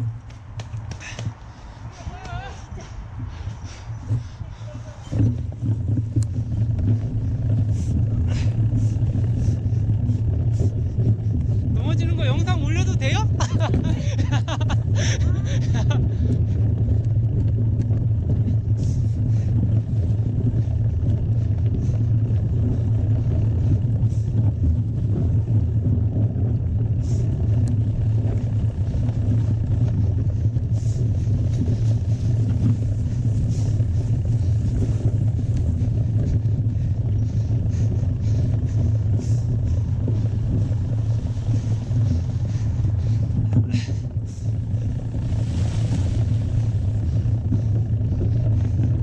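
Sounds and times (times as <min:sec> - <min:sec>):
wind and riding rumble: 0:00.0 - 0:49.0.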